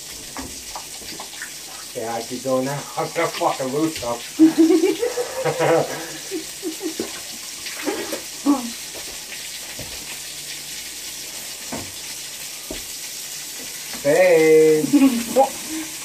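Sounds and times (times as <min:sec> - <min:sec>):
sausages sizzling in a frying pan: 0:00.0 - 0:16.0.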